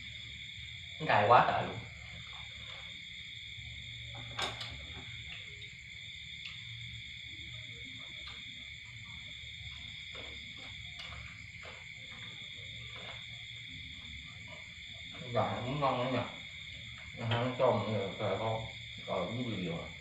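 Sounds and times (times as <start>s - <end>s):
night insects chirring: 0.0s - 20.0s.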